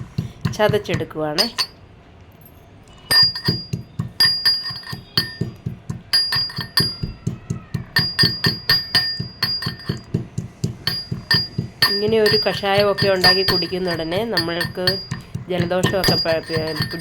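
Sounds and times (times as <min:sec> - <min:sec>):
pestle striking stone mortar: 0:00.0 - 0:01.7, 0:03.1 - 0:17.0.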